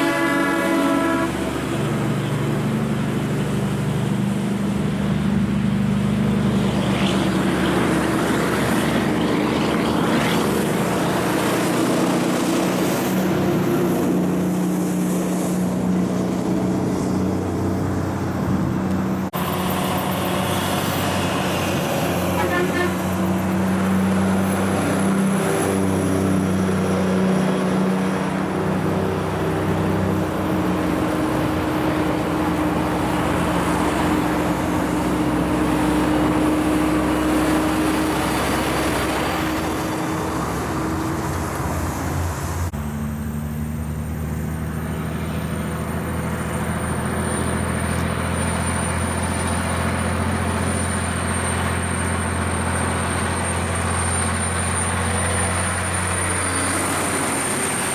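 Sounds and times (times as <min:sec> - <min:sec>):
diesel truck engine drone: 0:00.0 - 0:57.9
tyre and road noise: 0:00.0 - 0:57.9.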